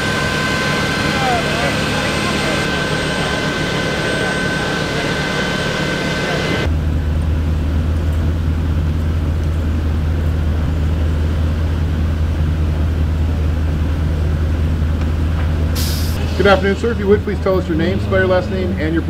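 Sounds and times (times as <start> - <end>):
deep even hum: 0.0 - 19.0
engine idling: 0.0 - 19.0.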